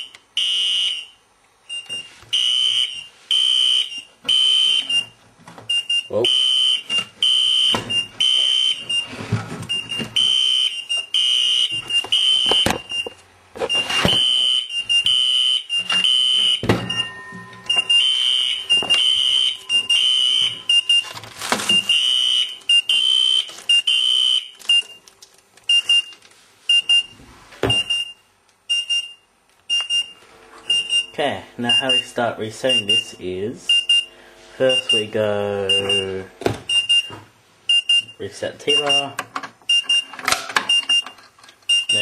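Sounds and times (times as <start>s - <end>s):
fire alarm pulsing tone: 0.0s - 9.1s, 9.7s - 13.1s, 13.7s - 25.0s, 27.7s - 40.1s, 41.7s - 42.0s.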